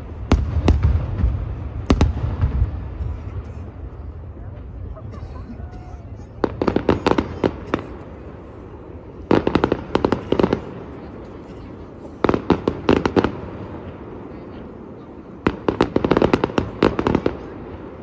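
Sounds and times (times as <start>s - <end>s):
fireworks exploding: 0.0s - 18.0s.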